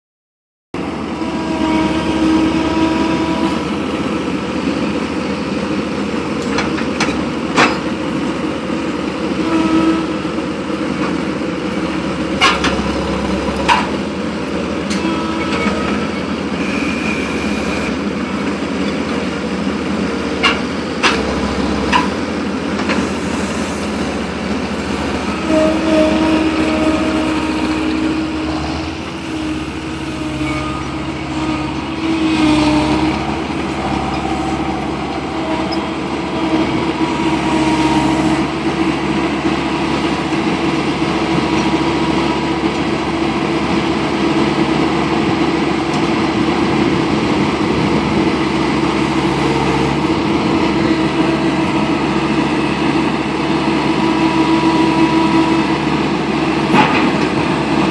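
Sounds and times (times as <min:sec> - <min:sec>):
hydraulic whine: 0:00.8 - 0:57.9
skid steer engine running: 0:00.8 - 0:57.9.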